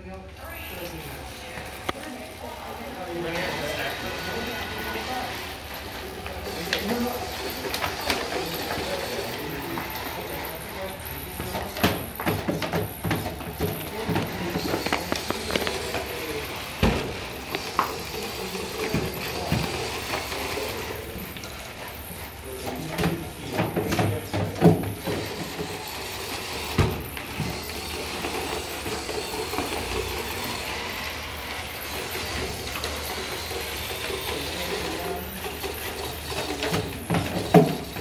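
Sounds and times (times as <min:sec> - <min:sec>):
electric drive motors running: 0:00.0 - 0:38.0.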